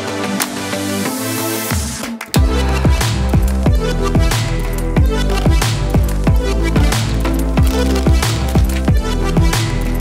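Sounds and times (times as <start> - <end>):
electronic music with bass drop: 0.0 - 10.0.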